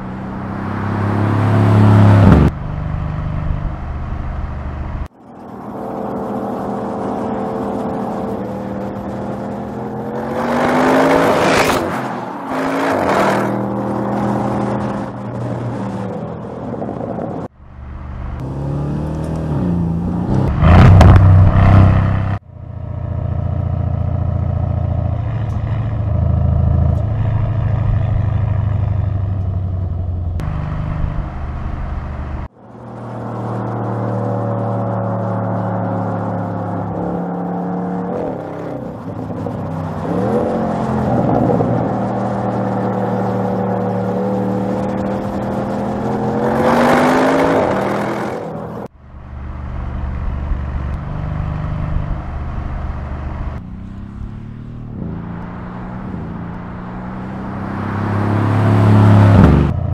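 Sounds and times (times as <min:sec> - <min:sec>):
car engine accelerating: 0:00.0 - 0:59.9
car engine cruising: 0:00.0 - 0:59.9.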